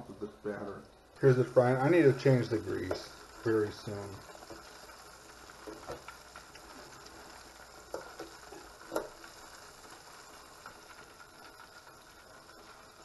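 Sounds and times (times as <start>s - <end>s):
fish sizzling in hot oil: 1.0s - 13.0s.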